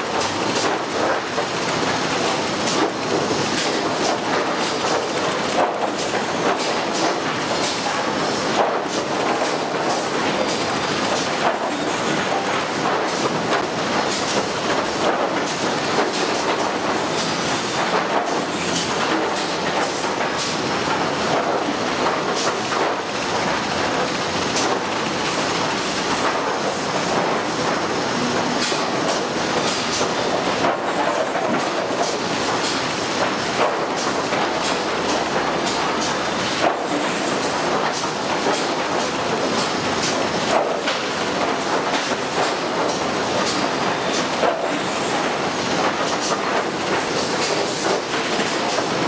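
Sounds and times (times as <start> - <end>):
machinery clattering: 0.0 - 49.0.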